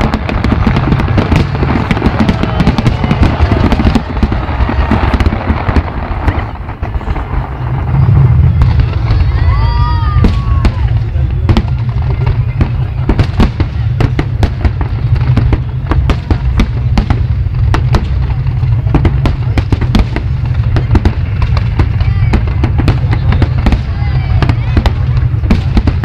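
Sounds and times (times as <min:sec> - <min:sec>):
fireworks cracking and popping: 0:00.0 - 0:26.0
low rumble: 0:00.6 - 0:22.4.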